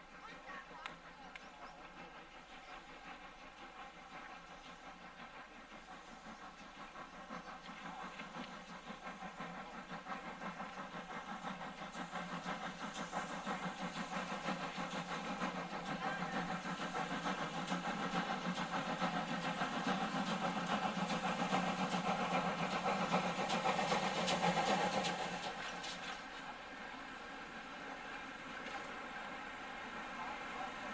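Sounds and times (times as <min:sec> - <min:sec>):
railway locomotive running: 0:00.0 - 0:30.9.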